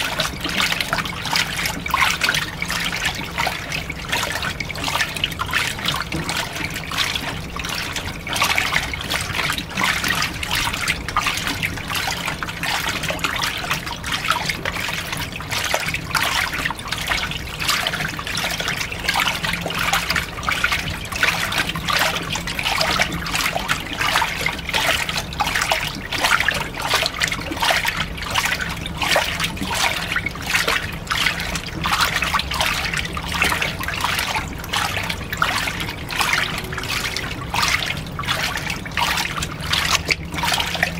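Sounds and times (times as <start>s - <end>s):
water splashing into drum: 0.0s - 40.9s.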